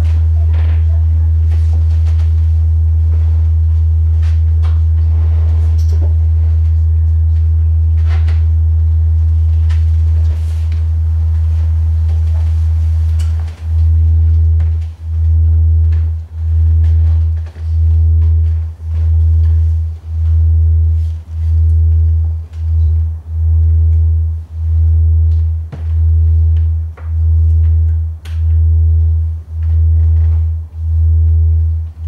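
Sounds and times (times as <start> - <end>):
deep oscillator drone: 0.0 - 32.0.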